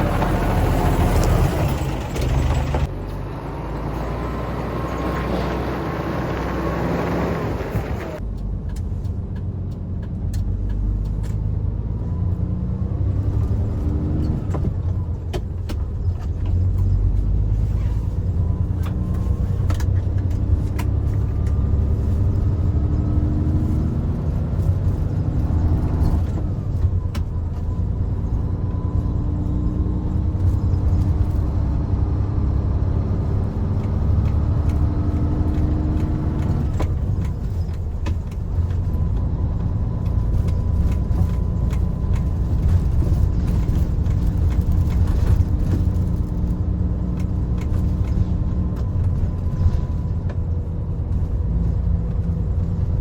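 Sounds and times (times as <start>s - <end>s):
heavy truck engine: 0.0s - 53.0s
thin drivetrain whine: 0.0s - 53.0s.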